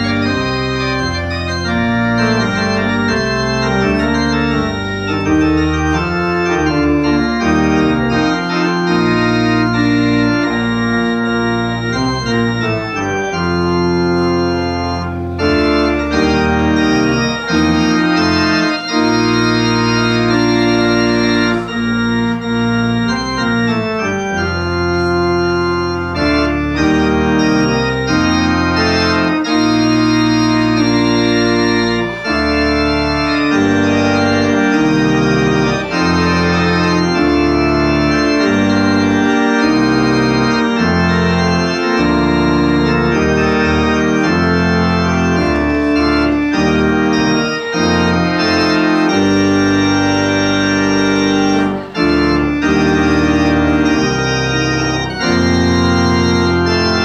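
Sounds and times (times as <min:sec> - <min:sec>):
organ playing slow chords: 0:00.0 - 0:57.0.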